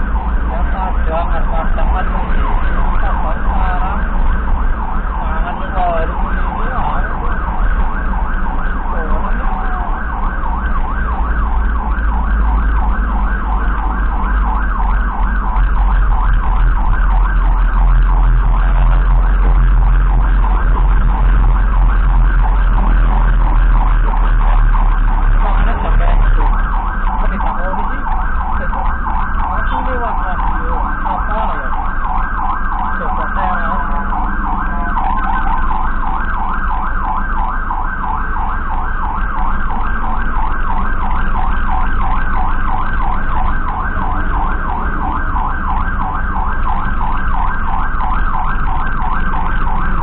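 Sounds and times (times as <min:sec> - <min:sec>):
engine and road rumble: 0:00.0 - 0:50.0
siren yelping: 0:00.0 - 0:50.0
slower siren rising and falling: 0:00.0 - 0:50.0.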